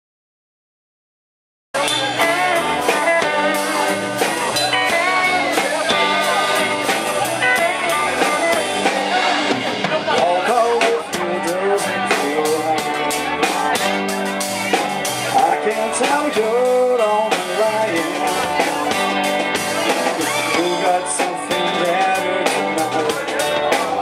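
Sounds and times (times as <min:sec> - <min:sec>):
electric guitar with bent notes: 0:01.8 - 0:24.0
steady drum beat: 0:01.8 - 0:24.0.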